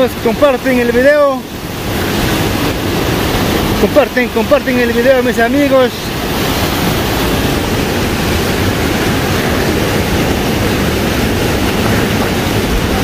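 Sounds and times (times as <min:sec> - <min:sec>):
river rushing through rapids: 0:00.0 - 0:13.0.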